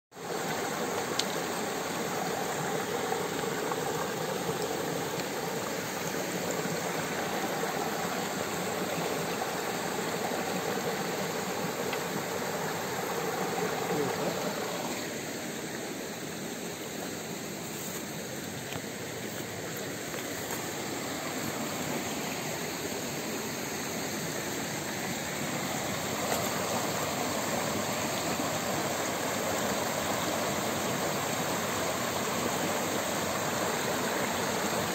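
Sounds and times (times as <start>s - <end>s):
stream splashing over stones: 0.2s - 34.9s.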